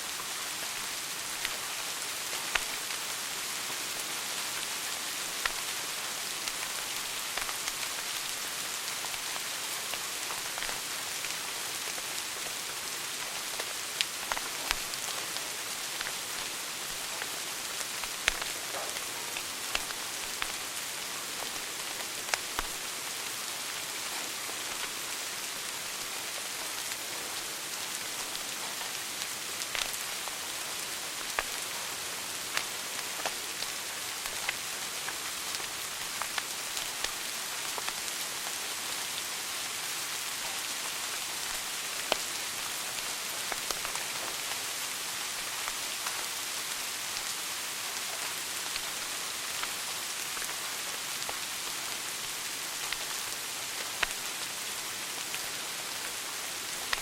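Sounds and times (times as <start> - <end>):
fire crackles and pops: 1.3 - 3.6, 4.4 - 12.1, 13.2 - 22.9, 28.0 - 38.9, 40.3 - 47.4, 48.0 - 57.0.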